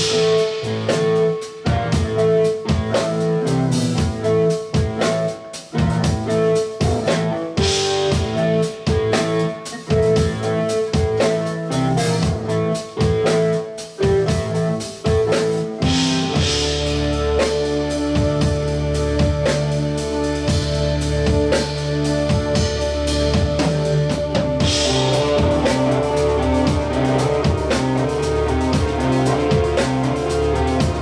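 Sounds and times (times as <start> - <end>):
drum strokes: 0.0 - 31.0
live band instrumental: 0.0 - 31.0.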